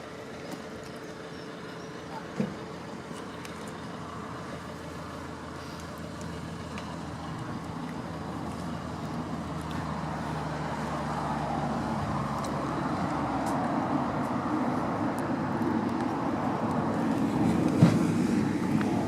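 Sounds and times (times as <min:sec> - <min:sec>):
vehicle hum and tyre noise: 0:00.0 - 0:19.0.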